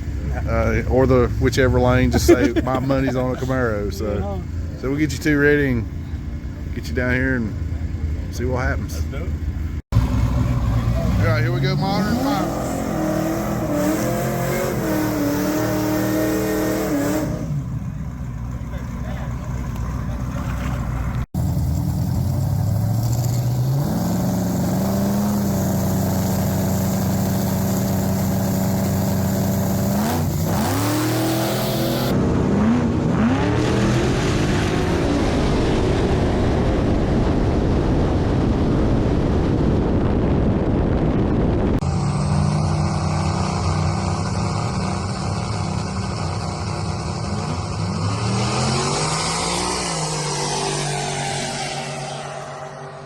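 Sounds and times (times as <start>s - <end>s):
race car engines idling and revving: 0.0s - 40.1s, 41.2s - 53.0s
loud engine and tyre noise: 0.0s - 53.0s.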